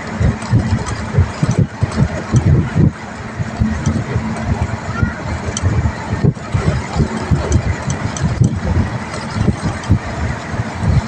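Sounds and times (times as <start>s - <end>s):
vehicle road and engine noise: 0.0s - 11.0s
wind rumbling on microphone: 0.0s - 11.0s.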